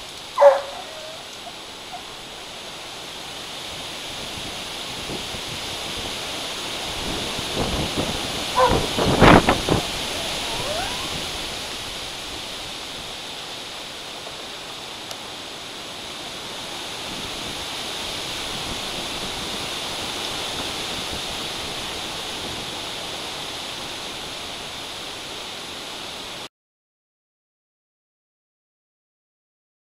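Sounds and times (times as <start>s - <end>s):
heavy rain: 0.0s - 26.5s
wind through trees: 0.0s - 26.5s.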